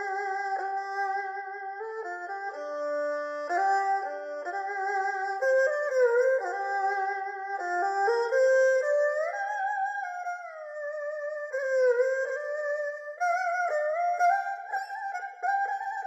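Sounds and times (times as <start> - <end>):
solo erhu melody: 0.0 - 16.0.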